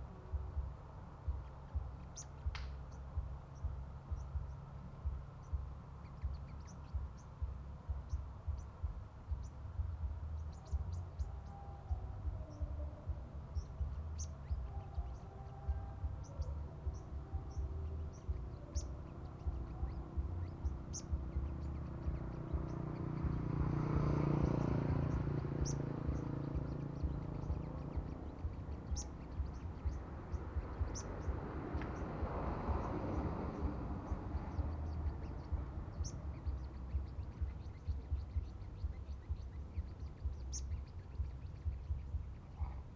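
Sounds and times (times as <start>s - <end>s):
bird chirping: 0.0s - 42.9s
low rumble: 0.0s - 42.9s.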